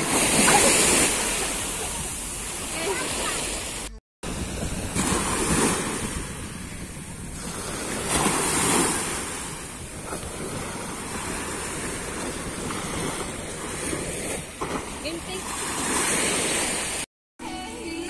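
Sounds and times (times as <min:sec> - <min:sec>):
waves washing up sandy shore: 0:00.0 - 0:17.1.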